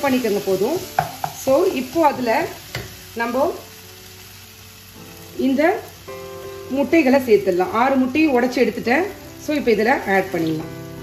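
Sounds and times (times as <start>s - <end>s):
vegetables sizzling: 0.0s - 11.0s.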